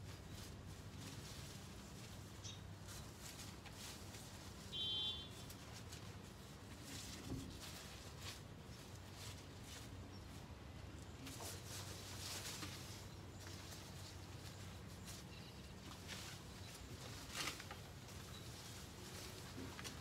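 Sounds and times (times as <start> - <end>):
soft rustles and clicks: 0.0 - 20.0.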